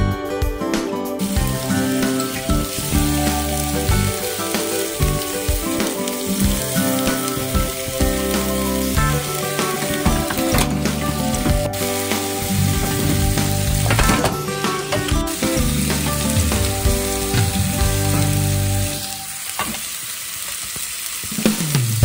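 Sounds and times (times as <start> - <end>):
pork sizzling in a pan: 1.2 - 22.0.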